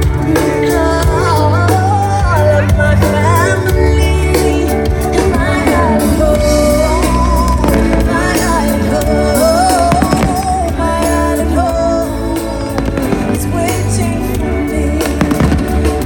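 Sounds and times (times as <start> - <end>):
song with singing over a band: 0.0 - 16.0
steady bass line: 0.0 - 16.0.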